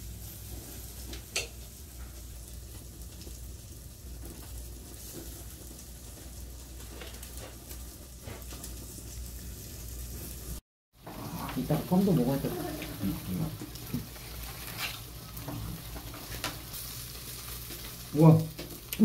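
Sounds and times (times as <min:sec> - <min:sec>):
meat sizzling on grill: 0:00.0 - 0:19.0.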